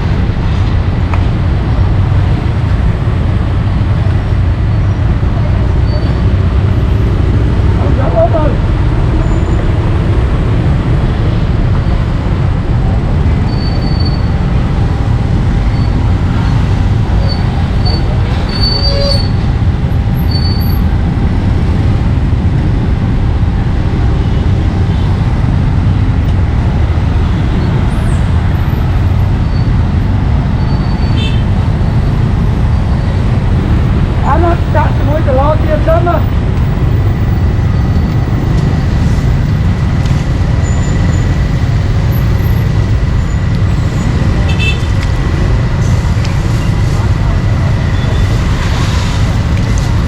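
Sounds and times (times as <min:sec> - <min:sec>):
street traffic rumble: 0:00.0 - 0:50.0.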